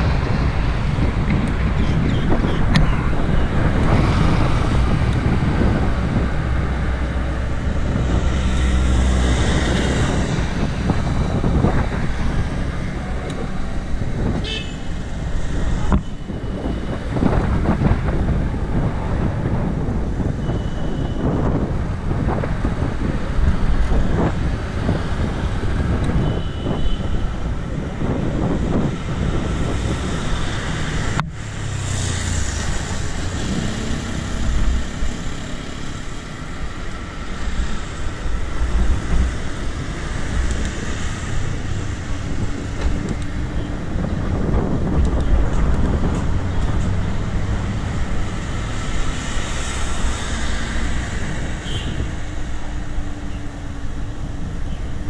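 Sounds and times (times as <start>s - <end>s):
road traffic noise: 0.0s - 55.0s
wind rushing over microphone: 0.0s - 55.0s.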